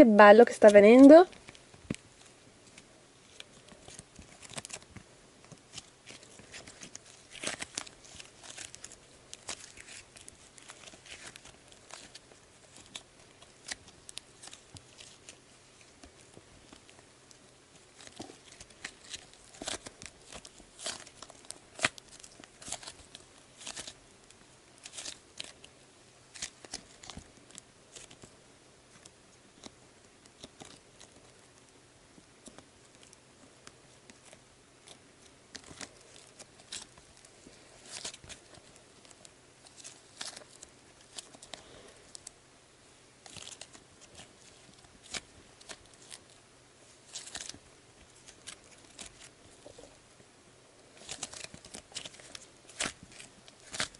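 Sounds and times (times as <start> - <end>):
slime kneaded by hand crackling: 0.0 - 42.4, 43.0 - 50.1, 50.8 - 53.9.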